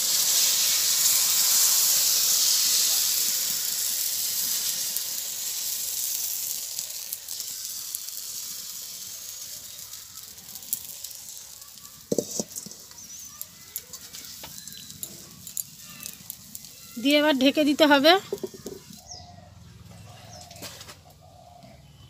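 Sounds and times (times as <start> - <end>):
batter sizzling in hot oil: 0.0 - 19.2
oil crackles: 0.0 - 19.2.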